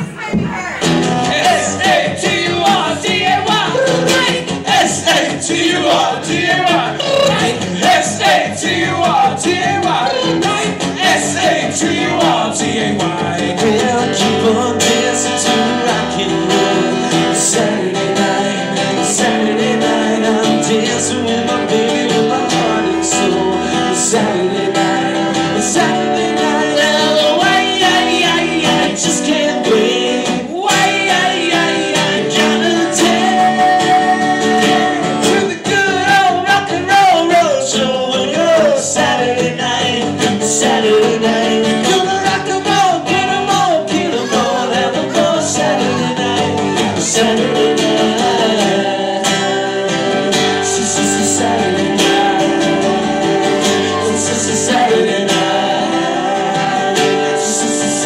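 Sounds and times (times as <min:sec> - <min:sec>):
acoustic guitars: 0:00.0 - 0:58.0
person singing: 0:00.0 - 0:58.0
slide guitar: 0:00.7 - 0:58.0.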